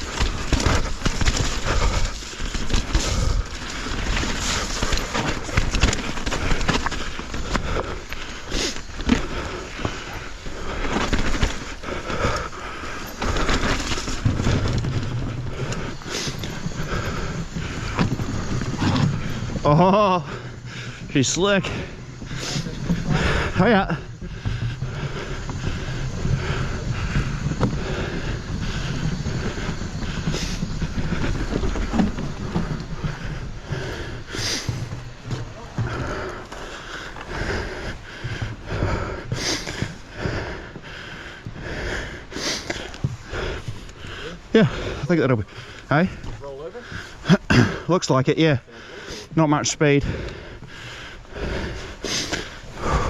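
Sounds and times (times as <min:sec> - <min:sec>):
bike knocking and rattling: 0:00.0 - 0:53.0
bike tyres crunching over dirt: 0:00.0 - 0:53.0.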